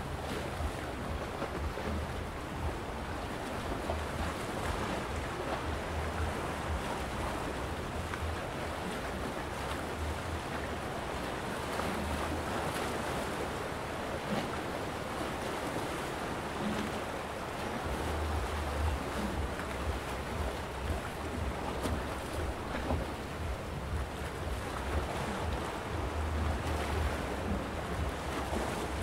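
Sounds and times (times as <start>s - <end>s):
wind buffeting microphone: 0.0s - 13.0s, 16.6s - 29.0s
waves washing against rocks: 0.0s - 29.0s.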